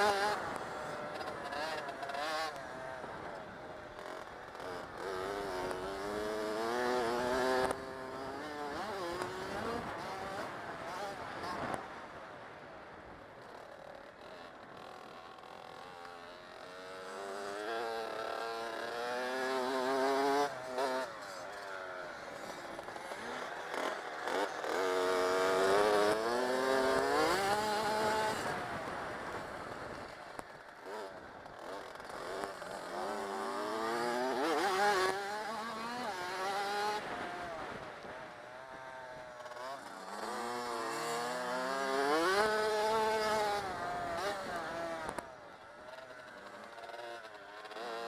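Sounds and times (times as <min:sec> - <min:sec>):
dirt bike engine revving: 0:00.0 - 0:11.9, 0:14.0 - 0:48.0.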